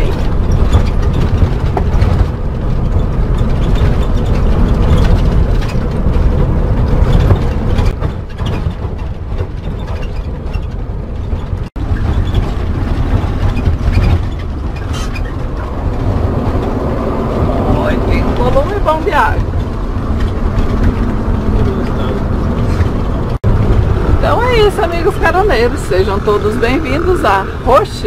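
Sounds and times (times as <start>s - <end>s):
cab rattles and clicks: 0.0s - 28.0s
engine and road rumble: 0.0s - 28.0s.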